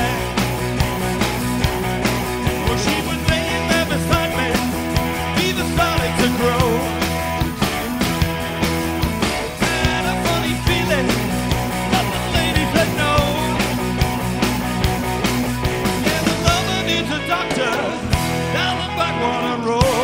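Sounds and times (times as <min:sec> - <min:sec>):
electric guitar bending lead notes: 0:00.0 - 0:20.0
live rock band playing: 0:00.0 - 0:20.0.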